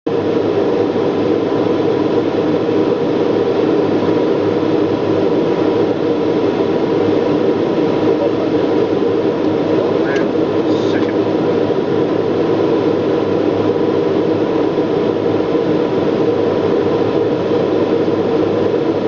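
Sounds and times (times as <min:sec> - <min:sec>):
aircraft engine drone: 0:00.1 - 0:19.0.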